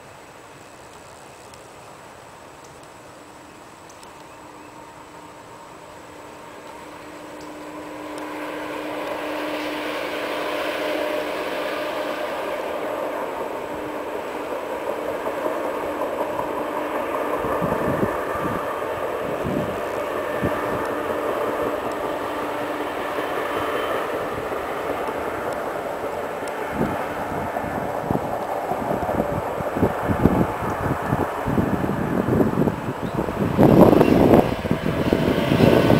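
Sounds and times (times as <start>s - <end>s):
rail machines rumbling: 0.0s - 35.9s
wind buffeting microphone: 6.4s - 35.9s.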